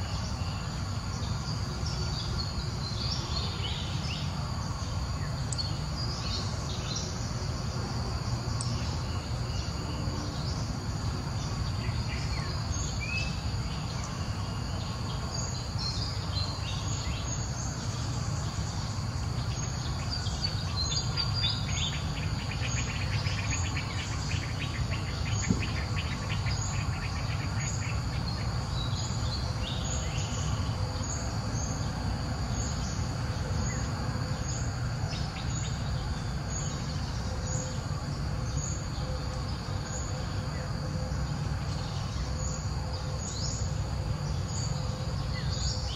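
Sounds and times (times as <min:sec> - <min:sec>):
steady insect buzz: 0:00.0 - 0:45.9.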